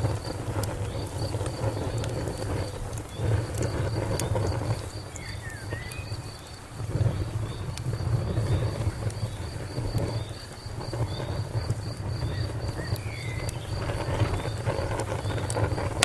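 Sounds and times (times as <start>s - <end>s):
crickets chirping: 0.0s - 16.0s
fire crackling and popping: 0.0s - 16.0s.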